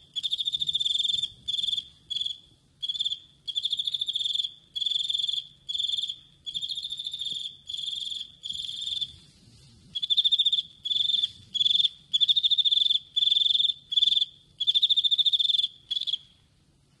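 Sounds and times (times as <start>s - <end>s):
cricket chirping: 0.0s - 9.2s, 10.0s - 16.4s.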